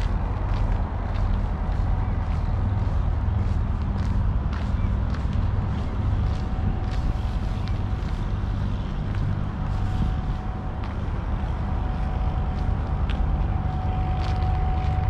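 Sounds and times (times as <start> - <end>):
faint steady hum: 0.0 - 15.0
light footsteps: 0.0 - 15.0
low rumble of engines: 0.0 - 15.0.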